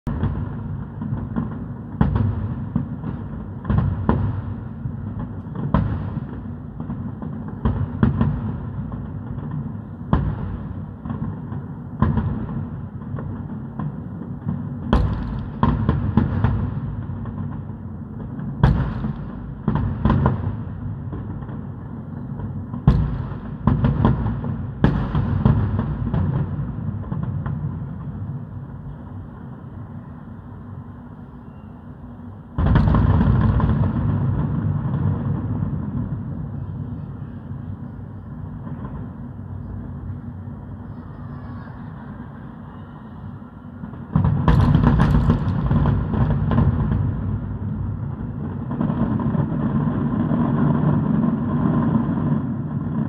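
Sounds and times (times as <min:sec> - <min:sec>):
firework bangs: 0:00.1 - 0:30.4, 0:31.8 - 0:53.0.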